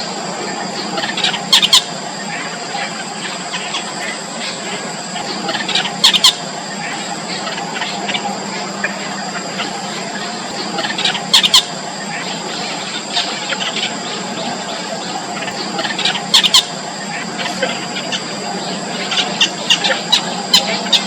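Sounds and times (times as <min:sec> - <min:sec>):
steady background hum: 0:00.0 - 0:21.0
bird chicks squealing: 0:00.5 - 0:21.0.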